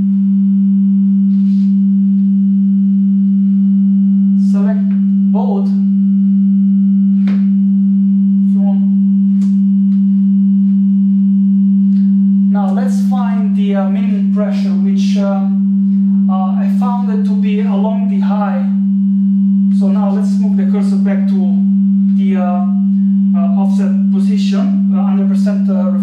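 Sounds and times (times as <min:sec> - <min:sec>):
steady sine test tone: 0:00.0 - 0:26.0.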